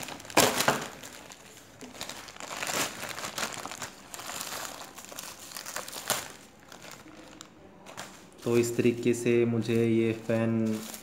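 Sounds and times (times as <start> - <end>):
plastic bag and bubble wrap crinkling: 0.0 - 11.0.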